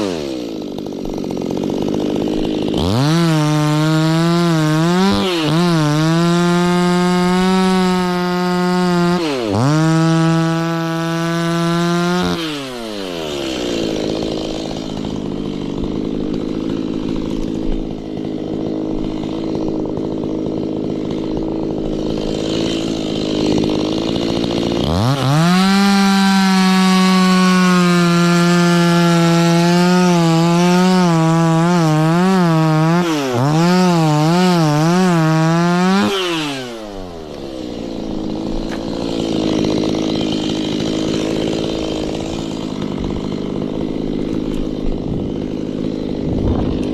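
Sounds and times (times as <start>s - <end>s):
chainsaw idling and revving: 0.0s - 46.9s.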